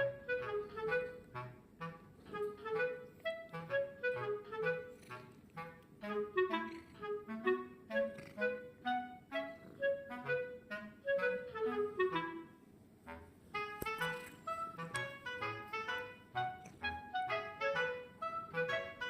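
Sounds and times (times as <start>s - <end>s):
light melody of quick notes: 0.0s - 12.6s, 13.5s - 19.0s.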